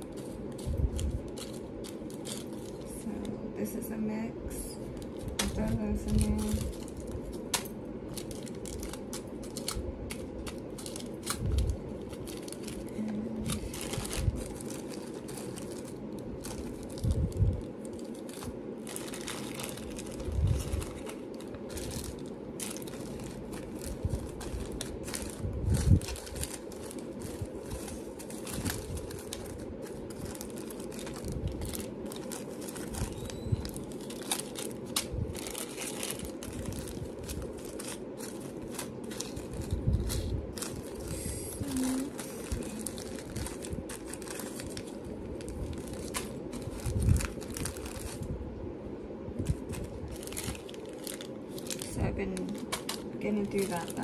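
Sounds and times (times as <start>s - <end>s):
plastic bags crinkling: 0.0s - 3.3s, 4.8s - 48.3s, 49.4s - 54.0s
low background hum: 0.0s - 54.0s.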